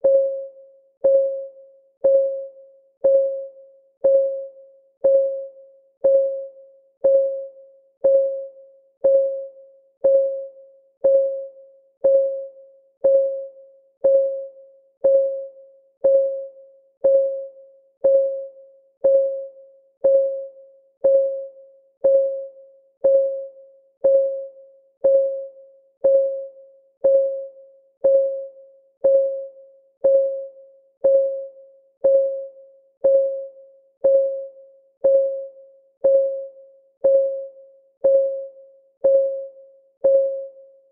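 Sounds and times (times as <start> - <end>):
countdown timer ticking: 2.0 - 2.4, 3.0 - 40.6.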